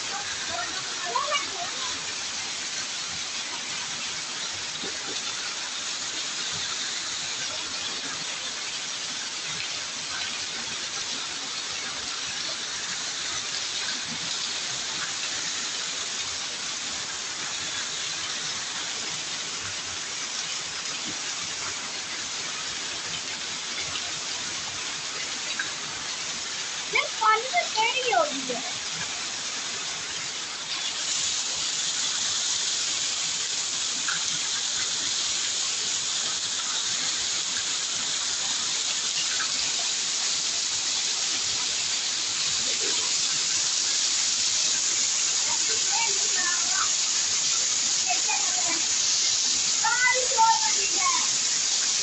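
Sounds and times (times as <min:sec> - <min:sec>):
heavy rain falling: 0:00.0 - 0:52.0
water pouring onto wet ground: 0:00.0 - 0:52.0.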